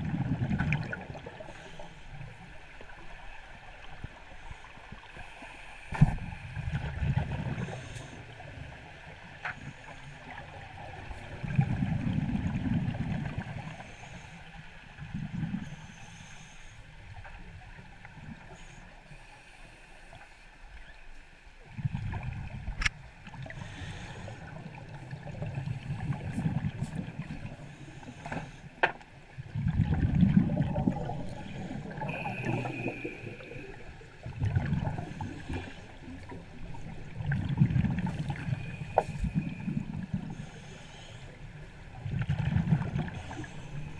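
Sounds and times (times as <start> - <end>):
underwater bubbling exhale: 0.0 - 3.1, 3.7 - 16.0, 21.6 - 28.6, 29.3 - 43.9.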